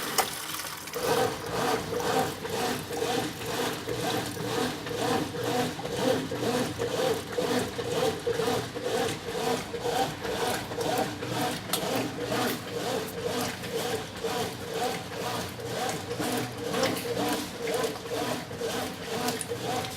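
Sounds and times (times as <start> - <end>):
washing machine agitating water: 0.0 - 19.9.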